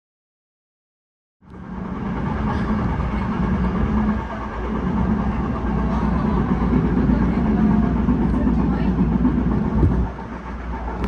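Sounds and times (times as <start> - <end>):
electric train rumbling: 1.4 - 11.0.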